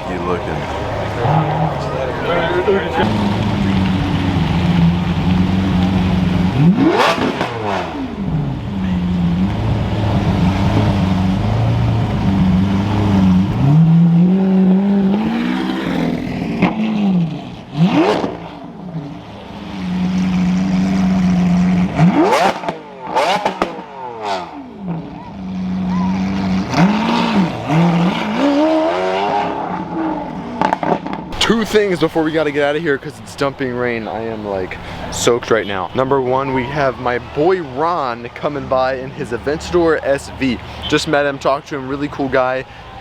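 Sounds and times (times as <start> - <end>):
car engines idling: 0.0 - 29.0, 29.6 - 43.0
cars driving past: 0.0 - 43.0.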